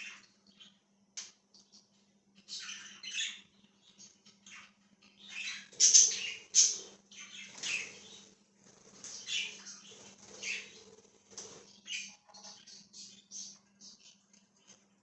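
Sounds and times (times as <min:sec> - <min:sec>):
budgerigars chirping: 0:00.0 - 0:00.8, 0:01.5 - 0:14.7
faint low hum: 0:00.0 - 0:15.0.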